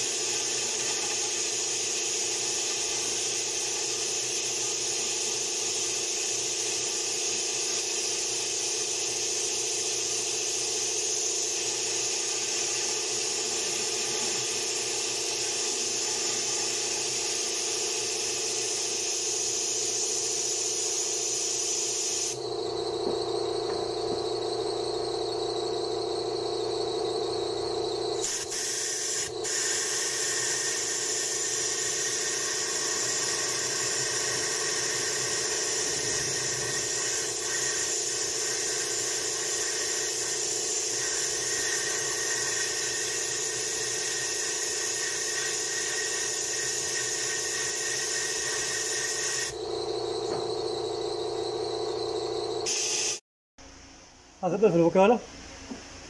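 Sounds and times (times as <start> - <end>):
compressed air hissing: 0.0 - 25.4, 27.9 - 50.7, 52.6 - 53.2
air whistling: 0.0 - 53.2.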